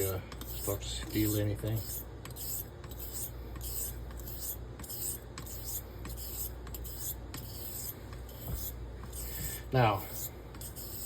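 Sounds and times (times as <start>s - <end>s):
razor scraping on whetstone: 0.0s - 11.0s.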